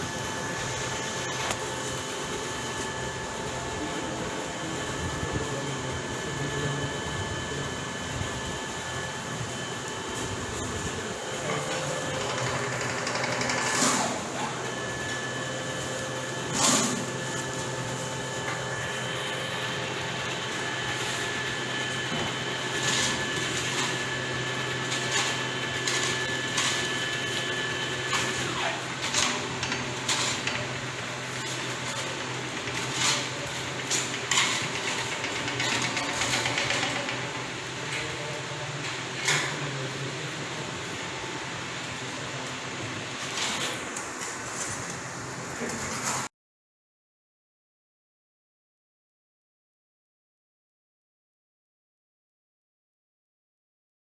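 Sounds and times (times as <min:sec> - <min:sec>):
printer motor hum: 0:00.0 - 0:45.6.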